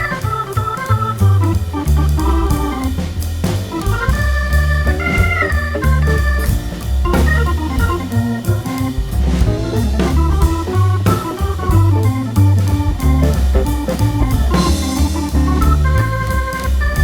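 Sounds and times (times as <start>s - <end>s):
organ-like keyboard music with beat: 0.0s - 17.0s.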